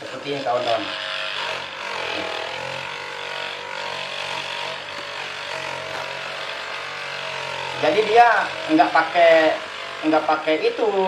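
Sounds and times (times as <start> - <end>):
bench polishing machine humming: 0.0 - 11.0.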